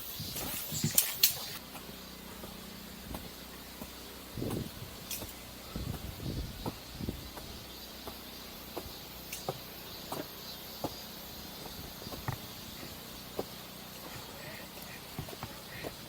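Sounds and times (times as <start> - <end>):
steady hiss: 0.0 - 16.0
footsteps walking: 0.2 - 16.0.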